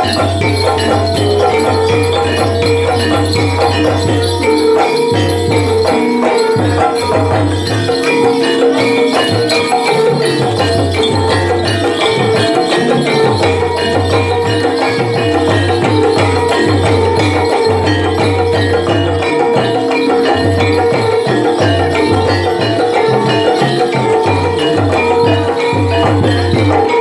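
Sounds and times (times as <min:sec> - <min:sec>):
gamelan music: 0:00.0 - 0:27.0
jingling bells: 0:00.0 - 0:27.0.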